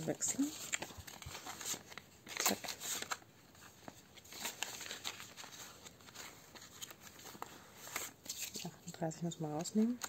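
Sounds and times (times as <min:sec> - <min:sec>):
banknotes and plastic pockets rustling: 0:00.0 - 0:10.0.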